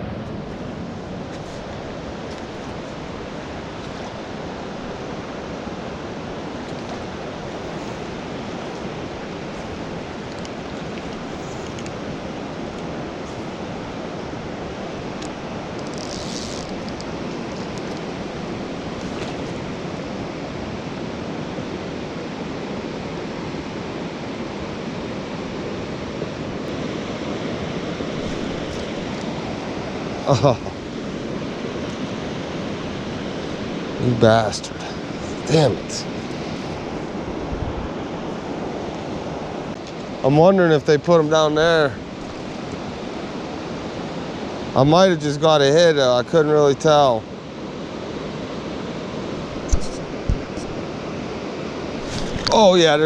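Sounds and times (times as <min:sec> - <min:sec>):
fast-flowing creek water: 0:00.0 - 0:53.0.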